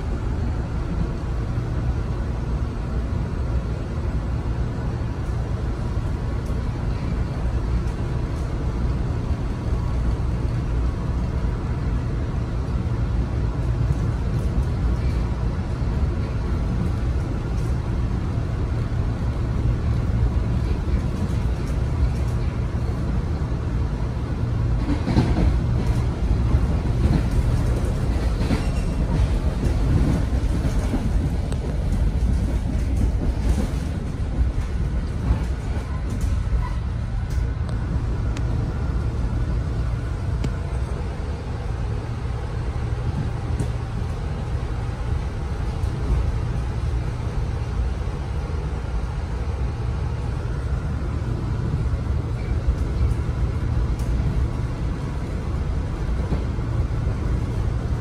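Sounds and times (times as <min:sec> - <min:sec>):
train car rumbling on rails: 0:00.0 - 0:58.0.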